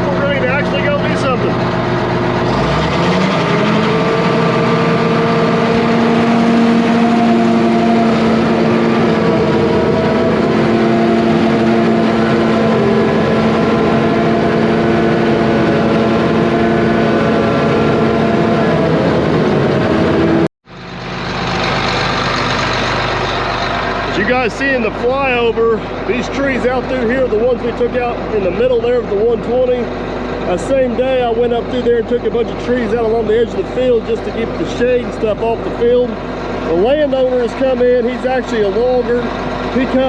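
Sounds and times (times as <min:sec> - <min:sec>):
heavy equipment diesel engine: 0:00.0 - 0:40.0.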